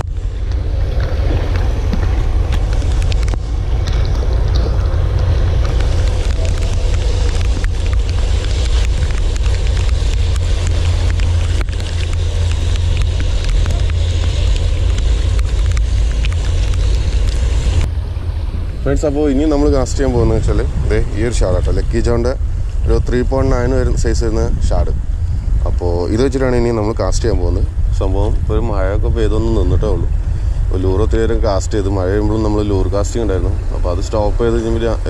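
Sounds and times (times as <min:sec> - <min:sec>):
rough sea: 0:00.0 - 0:35.0
wind buffeting microphone: 0:00.0 - 0:35.0.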